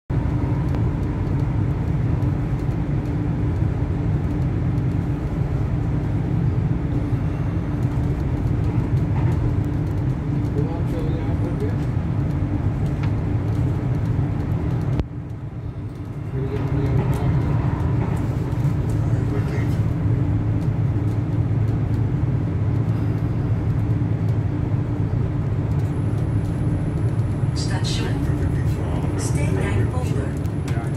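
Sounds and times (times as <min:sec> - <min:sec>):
tram wheels rumbling on rail: 0:00.1 - 0:30.9.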